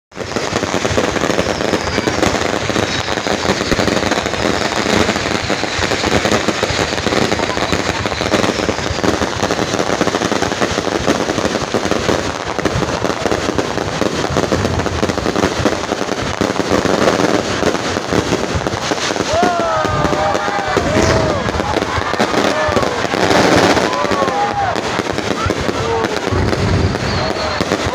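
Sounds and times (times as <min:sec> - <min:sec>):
fireworks bursting and crackling: 0:00.1 - 0:27.9.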